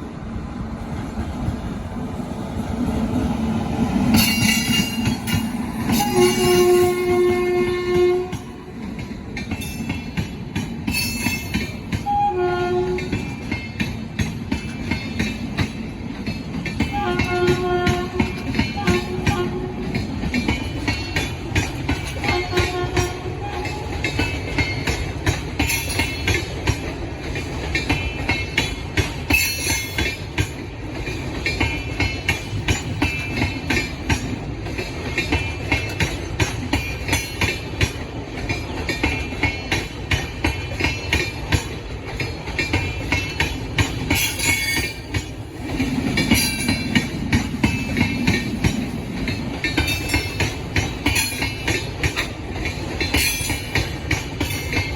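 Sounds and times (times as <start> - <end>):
train rumble: 0.0 - 54.9
train wheels clattering: 2.6 - 54.9.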